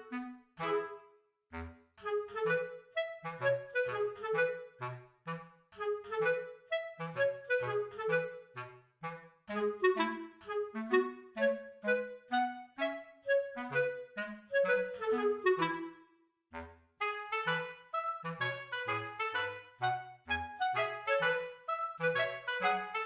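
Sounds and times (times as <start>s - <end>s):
bouncy woodwind tune: 0.0s - 23.0s.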